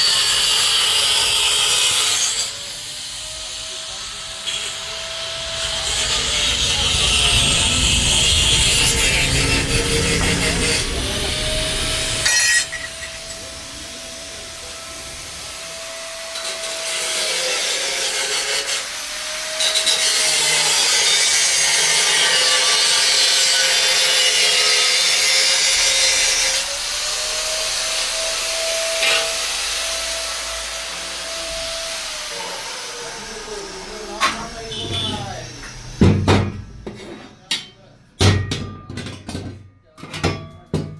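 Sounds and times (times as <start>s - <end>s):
electric grinder grinding metal: 0.0s - 37.0s.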